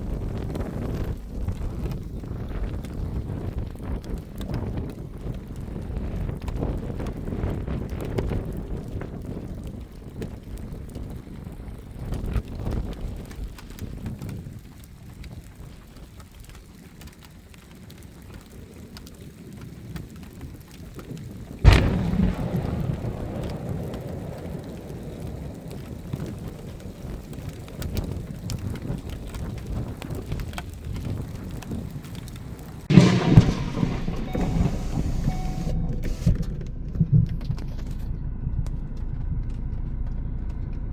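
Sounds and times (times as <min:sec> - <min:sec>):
thunder crack and rumble: 0:00.0 - 0:14.8, 0:17.9 - 0:40.9
steady rain: 0:00.0 - 0:36.4.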